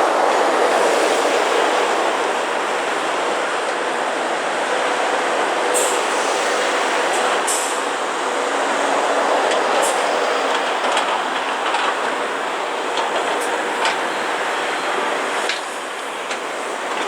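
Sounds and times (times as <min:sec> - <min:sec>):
heavy construction machinery running: 0:00.0 - 0:17.0.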